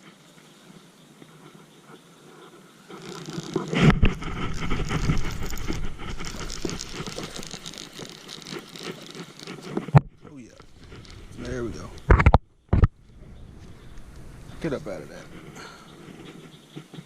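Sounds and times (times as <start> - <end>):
water splashing and rustling: 2.8 - 17.0.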